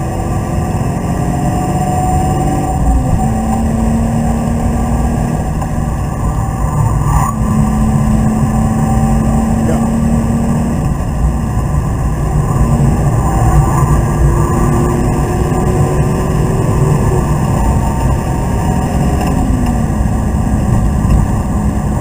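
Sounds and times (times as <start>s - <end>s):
car engine running: 0.0s - 22.0s
road and wind noise: 0.0s - 22.0s.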